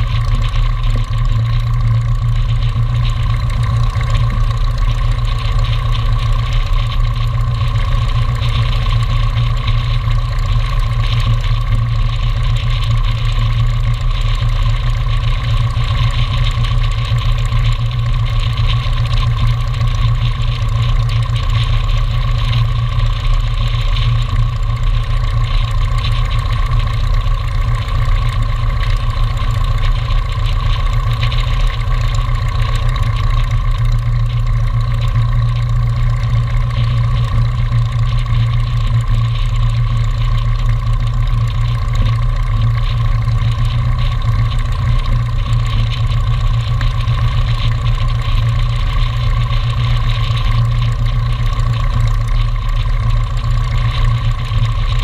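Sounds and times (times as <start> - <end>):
aircraft engine idling: 0.0 - 55.0.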